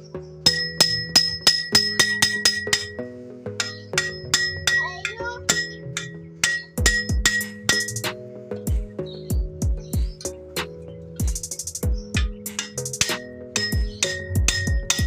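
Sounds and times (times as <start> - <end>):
music with percussive beat: 0.5 - 3.0, 3.6 - 15.0.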